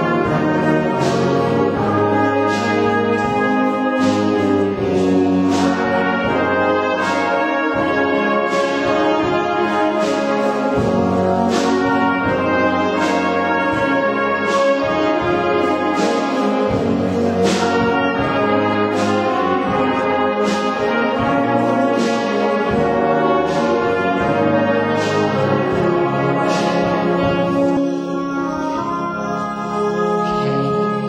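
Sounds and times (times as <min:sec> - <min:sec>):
brass and reed band playing: 0:00.0 - 0:31.0.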